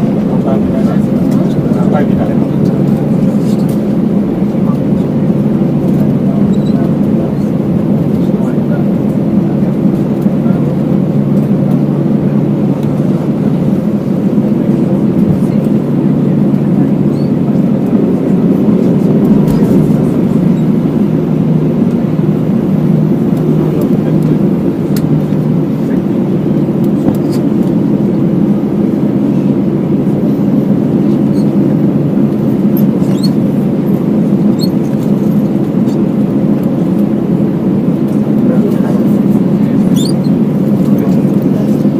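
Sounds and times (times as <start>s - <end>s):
jet engines humming: 0.0s - 41.9s.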